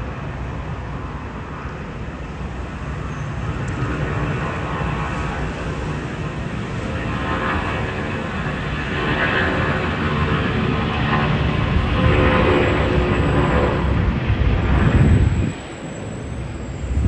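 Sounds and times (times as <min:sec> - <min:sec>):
airplane engines roaring: 0:00.0 - 0:17.0.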